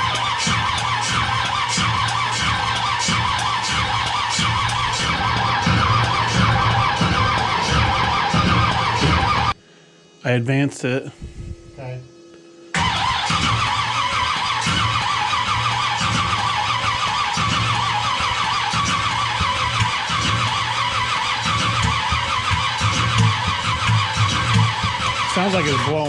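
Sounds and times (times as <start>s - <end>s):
car engine cranking on starter: 0.0s - 9.6s, 12.8s - 26.0s.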